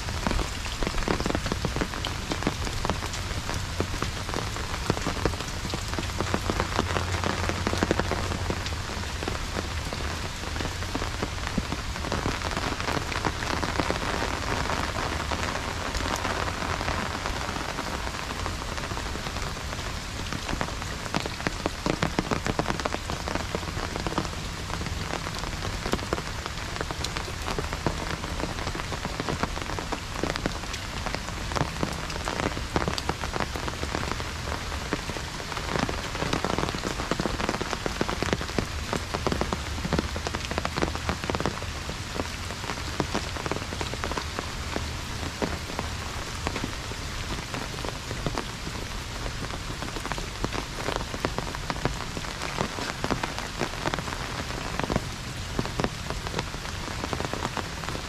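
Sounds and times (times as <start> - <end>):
heavy rain falling: 0.0 - 58.0
raindrops tapping on umbrella: 0.0 - 58.0.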